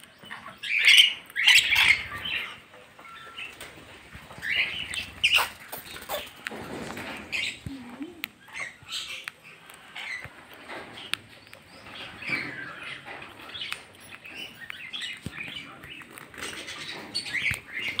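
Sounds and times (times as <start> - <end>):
parrots chirping and squeaking: 0.0 - 18.0.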